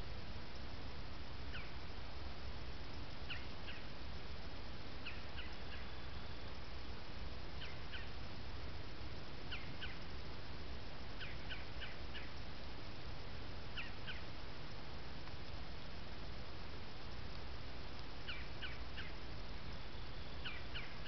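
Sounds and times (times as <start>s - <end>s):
faint bird chirps: 0.0s - 2.0s, 2.9s - 4.0s, 4.6s - 12.6s, 13.2s - 15.6s, 16.3s - 21.0s
microphone hiss: 0.0s - 21.0s.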